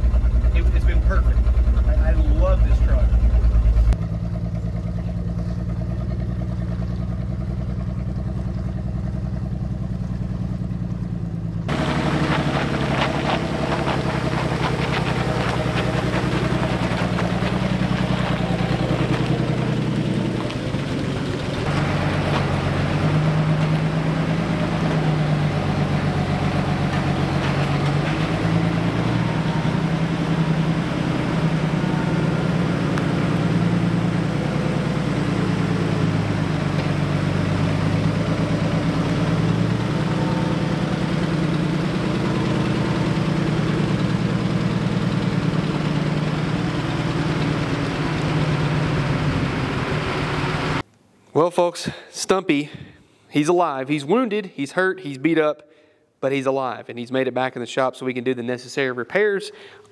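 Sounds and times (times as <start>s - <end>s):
truck engine running: 0.0s - 50.9s
road noise: 0.0s - 51.1s.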